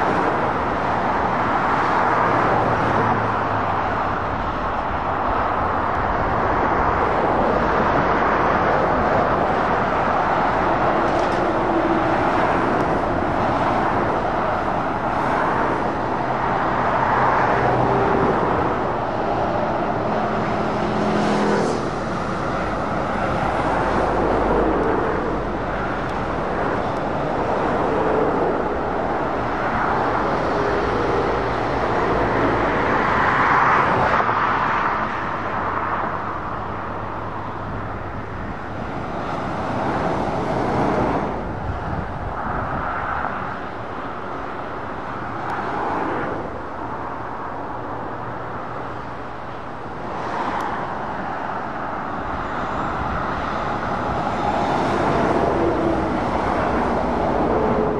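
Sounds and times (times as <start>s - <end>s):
lorries and cars passing: 0.0s - 57.9s
tyre noise on road: 0.0s - 57.9s.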